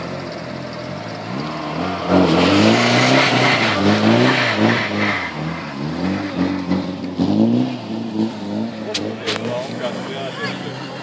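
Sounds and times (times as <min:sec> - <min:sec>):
car engine revving hard: 0:00.8 - 0:10.7.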